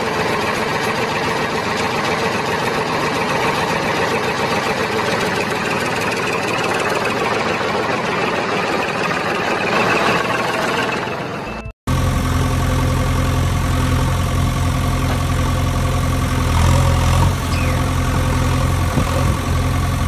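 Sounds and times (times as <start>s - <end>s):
engine running with fast rattle: 0.0s - 20.0s.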